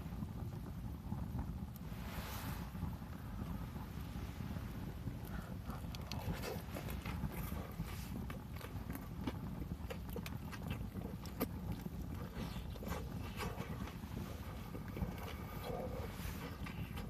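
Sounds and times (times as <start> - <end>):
fire low rumble: 0.0 - 17.0
firewood crackling and popping: 0.0 - 17.0.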